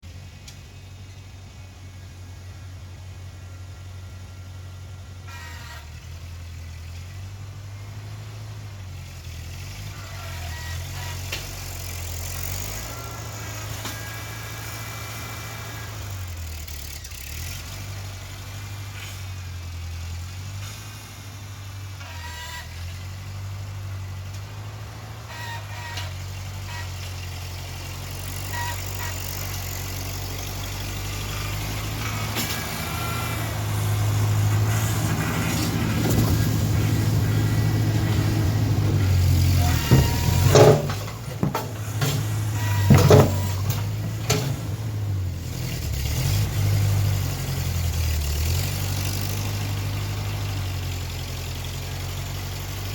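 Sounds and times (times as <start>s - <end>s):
engine running: 0.0s - 52.9s.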